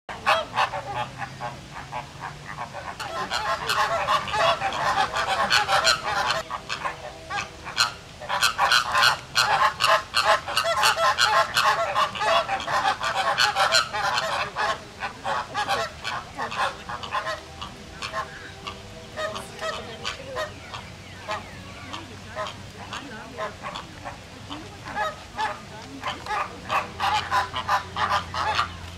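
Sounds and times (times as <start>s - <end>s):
flamingos honking: 0.1s - 28.9s.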